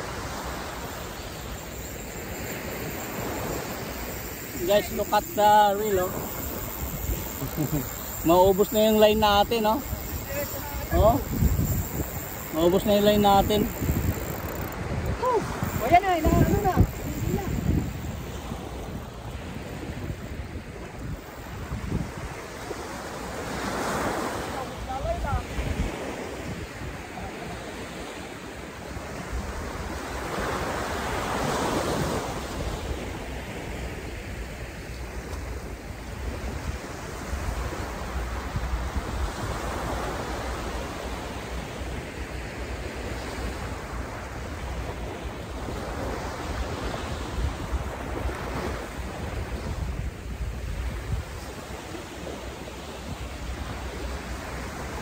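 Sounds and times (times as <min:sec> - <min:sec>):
waves breaking on beach: 0:00.0 - 0:55.0
wind rumbling on microphone: 0:00.0 - 0:55.0.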